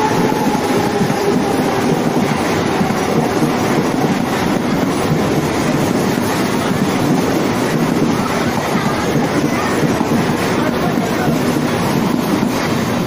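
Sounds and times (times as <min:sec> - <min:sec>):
electric train running past: 0:00.0 - 0:13.0.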